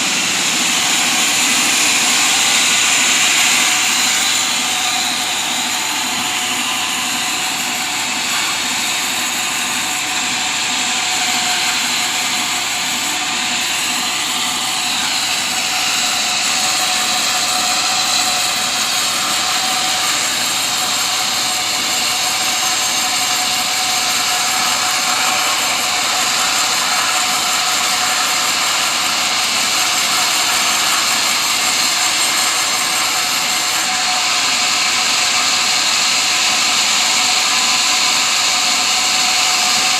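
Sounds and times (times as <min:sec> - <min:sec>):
sawmill whine and hiss: 0:00.0 - 0:39.9.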